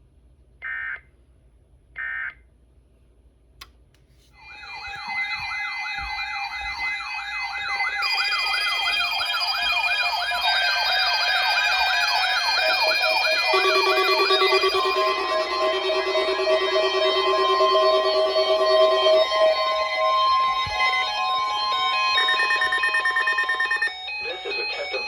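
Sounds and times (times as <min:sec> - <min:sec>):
electronic siren sweeping up and down: 0:04.4 - 0:25.0
warbling alarm tones: 0:04.4 - 0:25.0.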